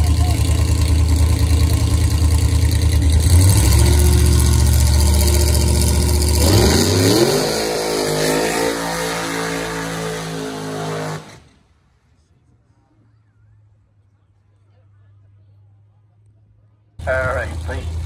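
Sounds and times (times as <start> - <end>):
car engine idling and revving: 0.0 - 11.7, 13.3 - 18.0.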